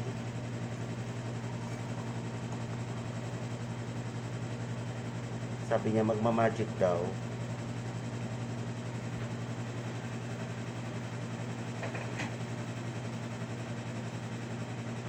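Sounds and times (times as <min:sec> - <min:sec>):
air conditioner humming: 0:00.0 - 0:14.7.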